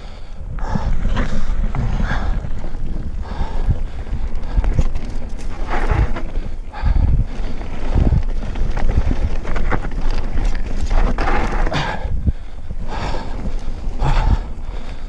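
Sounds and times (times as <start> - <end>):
bike thudding over bumps: 0.0 - 15.0
mountain bike rumbling and rattling: 0.0 - 15.0
wind buffeting microphone: 0.0 - 15.0.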